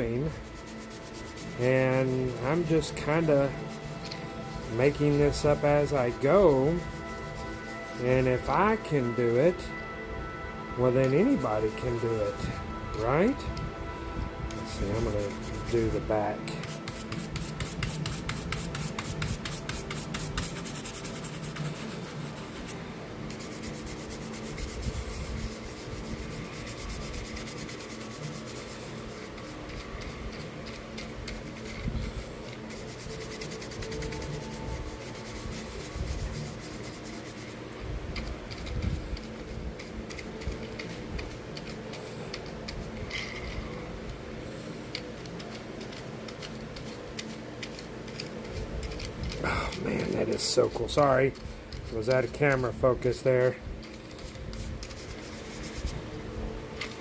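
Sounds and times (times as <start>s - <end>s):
scratchy hand rubbing: 0.0s - 9.7s, 10.9s - 13.6s, 14.5s - 37.6s, 38.2s - 43.9s, 44.9s - 57.0s.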